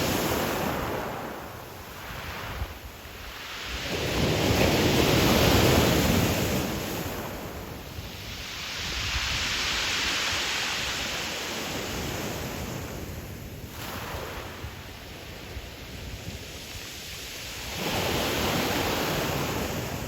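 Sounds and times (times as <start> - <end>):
waves washing on pebble shore: 0.0 - 13.1, 13.7 - 14.6, 16.8 - 20.0.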